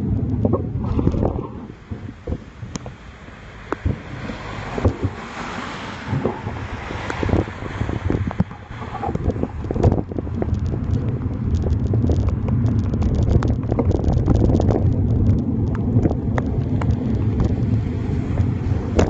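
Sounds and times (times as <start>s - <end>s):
rain ticking and tapping: 0.0s - 19.0s
wind rumbling over microphone: 0.0s - 19.0s.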